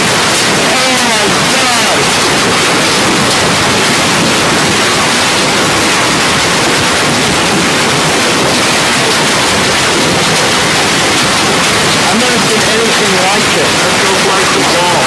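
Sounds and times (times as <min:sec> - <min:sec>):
hail and rain pelting down: 0:00.0 - 0:15.0.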